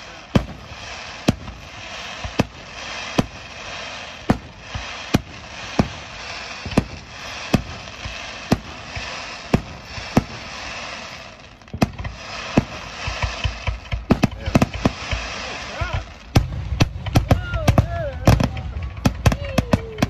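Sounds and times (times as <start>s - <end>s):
firework bangs: 0.0s - 20.0s
firework crackling: 0.0s - 20.0s.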